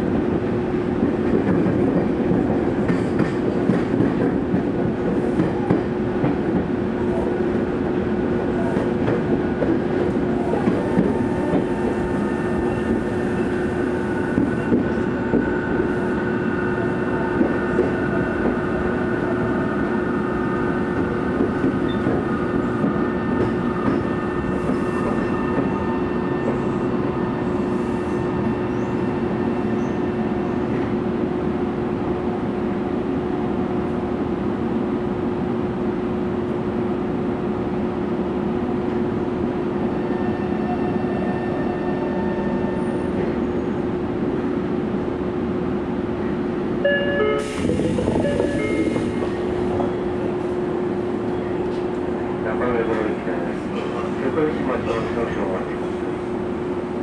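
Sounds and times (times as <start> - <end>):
train running rumble: 0.0 - 33.3, 42.5 - 57.0.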